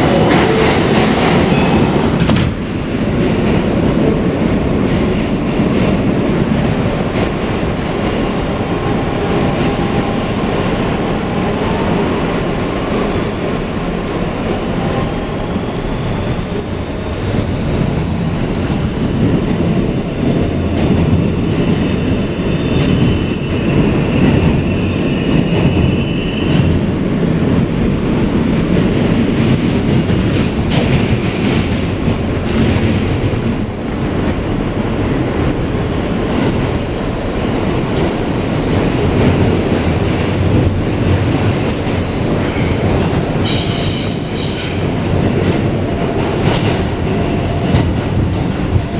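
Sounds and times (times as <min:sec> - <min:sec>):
wheels rumbling on rails: 0:00.0 - 0:48.9.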